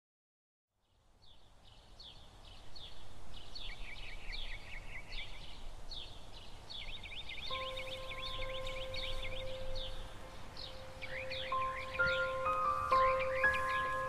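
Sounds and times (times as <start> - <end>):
small birds chirping: 0.8 - 14.0.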